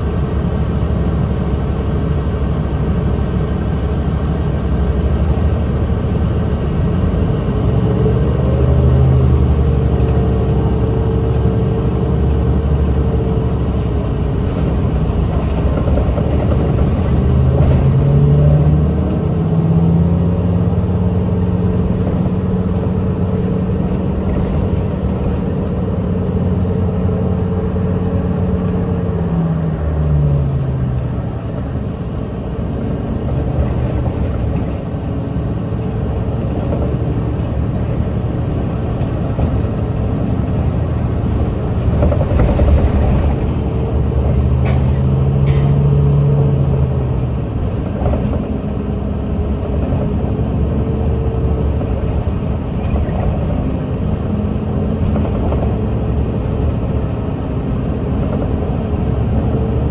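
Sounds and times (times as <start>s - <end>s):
bus engine accelerating: 0.0s - 59.9s.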